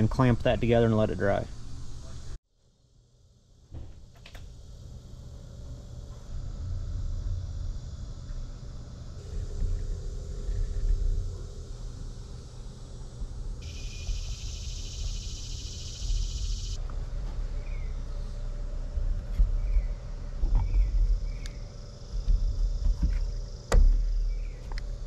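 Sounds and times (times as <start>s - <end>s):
high insect buzz: 1.2s - 25.0s.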